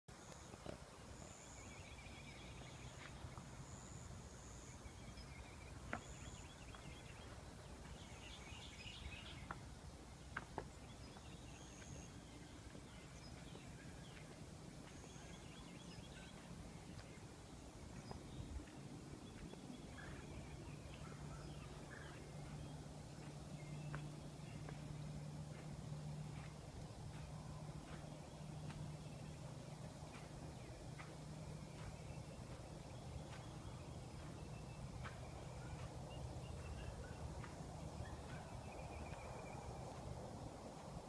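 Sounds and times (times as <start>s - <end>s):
low steady hum: 0.1s - 41.0s
small birds chirping: 0.2s - 41.0s.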